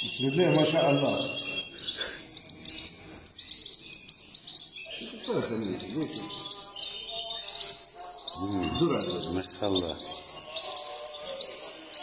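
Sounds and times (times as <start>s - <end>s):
nestlings cheeping: 0.0s - 12.0s.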